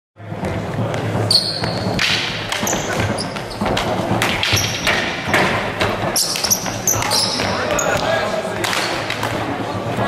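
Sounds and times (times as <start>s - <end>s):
voices in hall: 0.2s - 10.0s
shoes squeaking: 0.4s - 9.1s.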